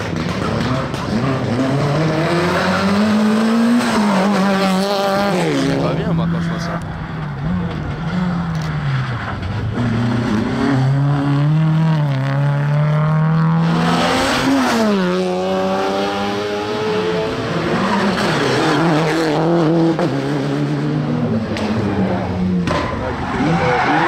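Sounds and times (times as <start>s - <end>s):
rally car braking and passing: 0.0s - 24.0s
rally car accelerating through gears: 0.2s - 24.0s.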